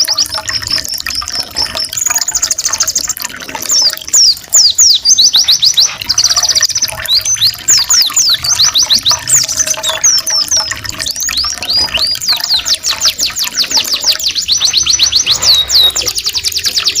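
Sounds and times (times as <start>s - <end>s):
songbird trills: 0.0s - 17.0s
trickling water: 0.0s - 17.0s.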